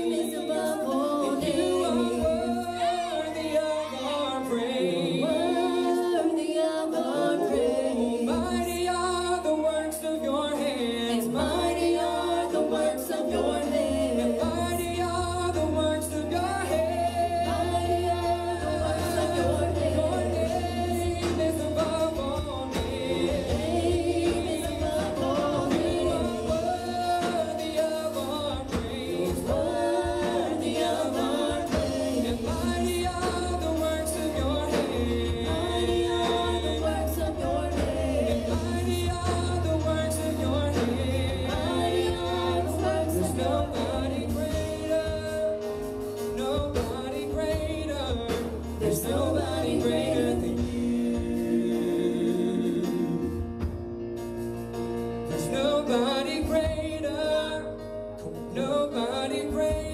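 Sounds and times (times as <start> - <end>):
group singing a gospel song: 0.0 - 59.9.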